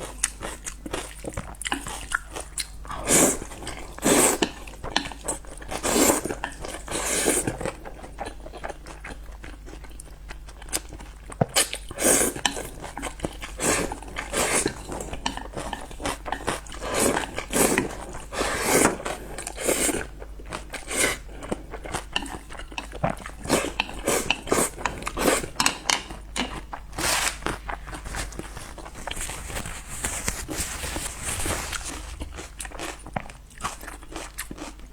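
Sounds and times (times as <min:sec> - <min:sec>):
chewing and biting noodles: 0:00.0 - 0:34.9.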